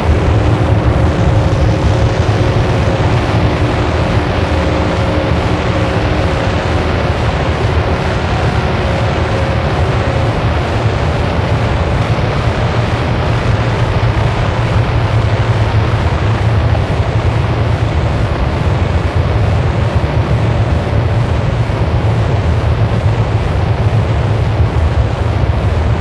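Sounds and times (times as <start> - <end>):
harsh noise music: 0.0 - 26.0.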